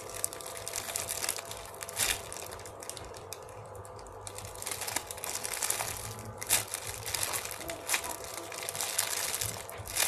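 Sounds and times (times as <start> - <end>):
squishy toy clicks and rustling: 0.0 - 10.0.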